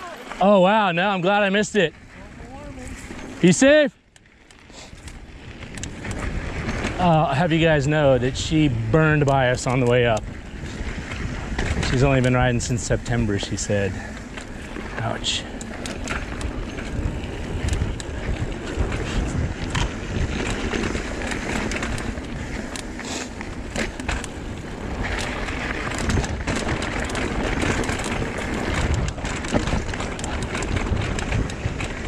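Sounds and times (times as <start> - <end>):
bike rattling and knocking: 0.0 - 32.0
bike tyres on dirt and rock: 0.0 - 32.0
wind buffeting microphone: 4.9 - 32.0.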